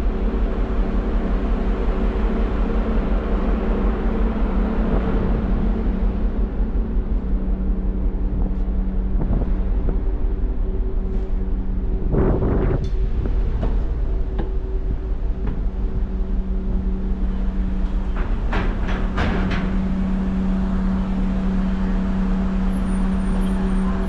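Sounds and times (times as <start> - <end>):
ferry engines rumbling: 0.0 - 24.0
wind noise on microphone: 0.0 - 24.0.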